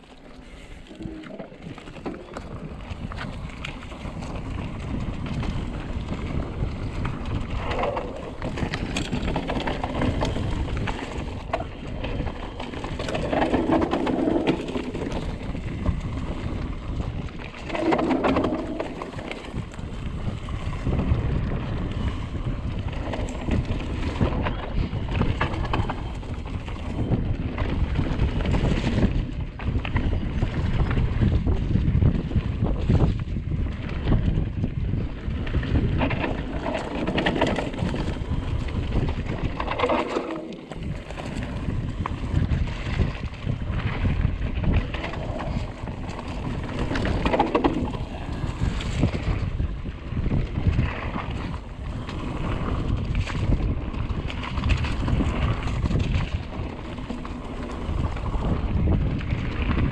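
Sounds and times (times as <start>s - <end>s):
mountain bike rumbling and rattling: 0.0s - 59.9s
wind buffeting microphone: 0.0s - 59.9s.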